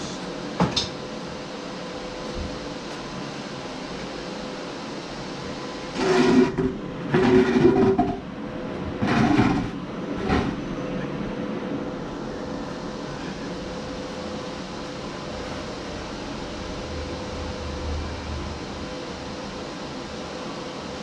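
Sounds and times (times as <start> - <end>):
welder cooling fan hum: 0.0 - 21.0.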